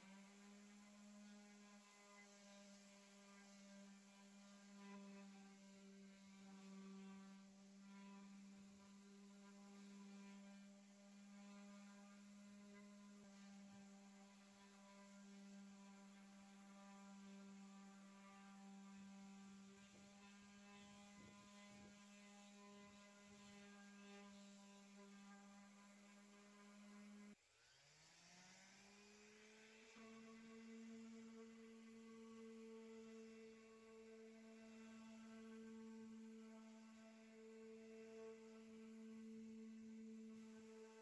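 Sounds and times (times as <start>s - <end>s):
orbit sander running on wood: 0.0s - 41.0s.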